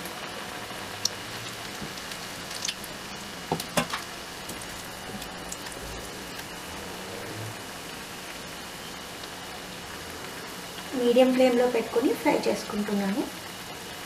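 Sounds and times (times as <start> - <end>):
deep-frying sizzle in oil: 0.0 - 14.0.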